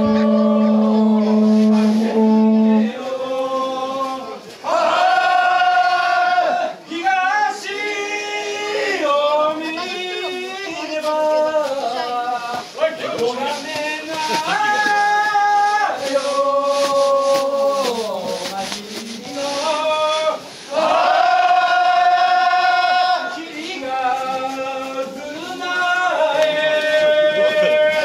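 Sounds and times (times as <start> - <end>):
men singing together: 0.0 - 28.0.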